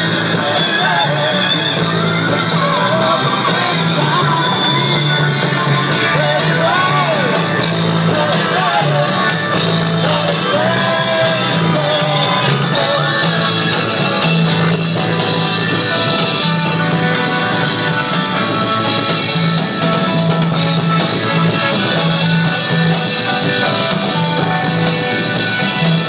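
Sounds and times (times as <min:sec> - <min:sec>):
rock song with sung vocal: 0:00.0 - 0:26.0
steady bass line: 0:00.0 - 0:26.0.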